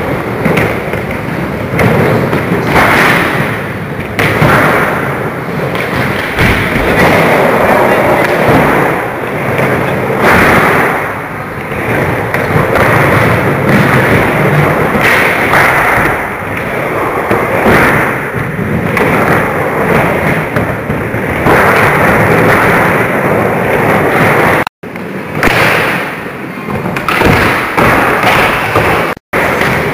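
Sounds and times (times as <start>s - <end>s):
skateboard wheels rolling on ramp: 0.0s - 29.9s.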